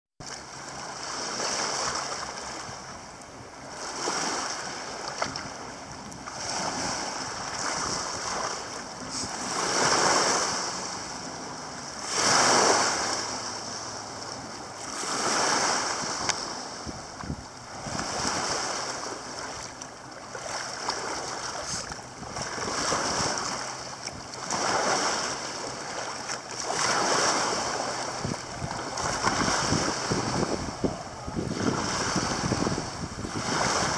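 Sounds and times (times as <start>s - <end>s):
small waves lapping: 0.2s - 33.9s
wind: 0.2s - 33.9s.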